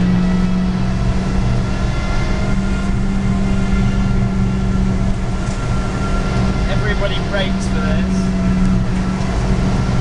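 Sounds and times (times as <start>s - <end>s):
car engine at steady revs: 0.0s - 10.0s
road and tyre noise: 0.0s - 10.0s.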